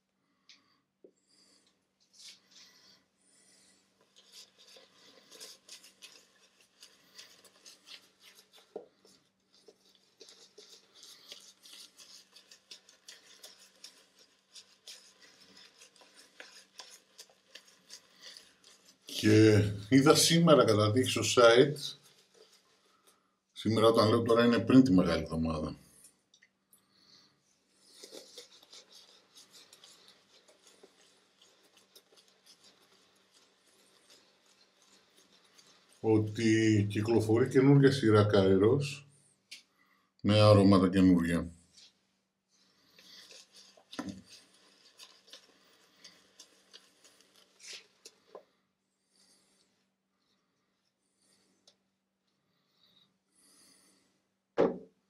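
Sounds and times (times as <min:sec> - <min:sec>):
shaving brush swishing: 0:01.4 - 0:26.0, 0:27.0 - 0:39.1, 0:41.7 - 0:49.8.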